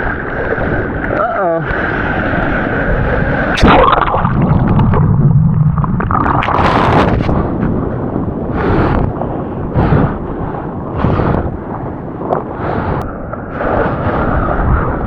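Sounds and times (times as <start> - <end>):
heavy surf breaking: 0.0 - 15.0.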